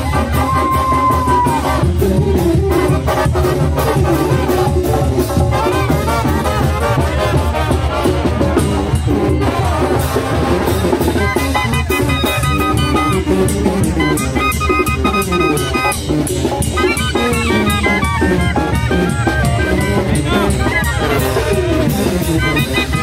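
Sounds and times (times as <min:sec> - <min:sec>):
brass band playing festive music: 0:00.0 - 0:23.0
drums keeping a beat: 0:00.0 - 0:23.0.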